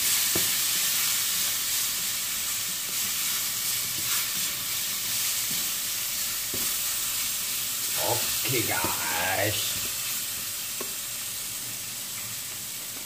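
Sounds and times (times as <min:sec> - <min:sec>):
mushrooms sizzling in oil: 0:00.0 - 0:13.0.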